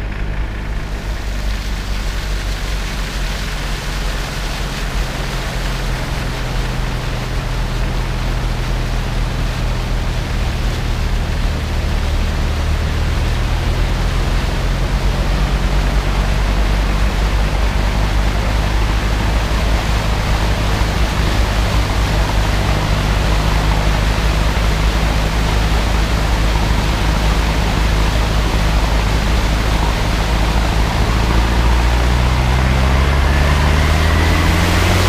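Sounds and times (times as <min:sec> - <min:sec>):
car engine running under load: 0:00.0 - 0:35.0
churning water rushing: 0:00.0 - 0:35.0.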